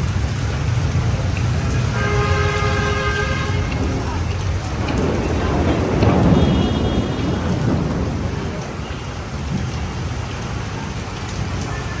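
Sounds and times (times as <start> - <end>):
heavy rain: 0.0 - 12.0
thunder rumble: 0.0 - 12.0.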